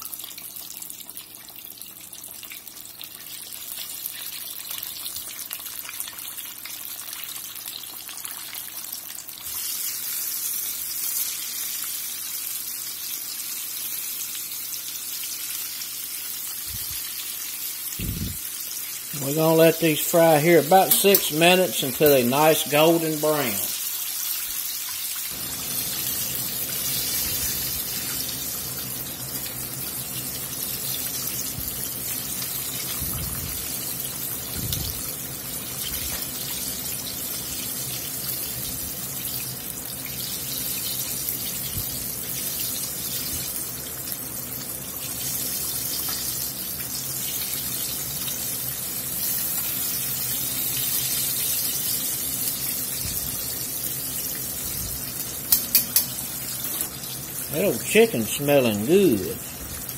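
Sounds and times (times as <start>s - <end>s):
deep-frying bubbling sizzle: 0.0s - 59.9s.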